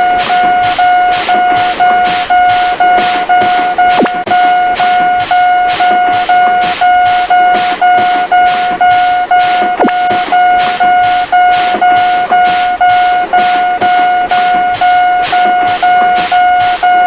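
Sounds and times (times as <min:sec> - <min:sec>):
crossing bell dinging: 0:00.0 - 0:17.0.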